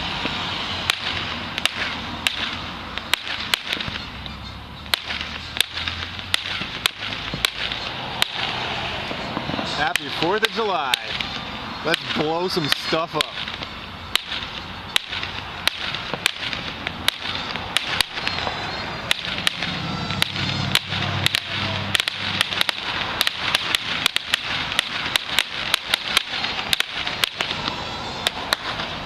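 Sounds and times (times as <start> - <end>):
crackling hiss: 0.0 - 29.0
firecrackers popping: 0.0 - 29.0.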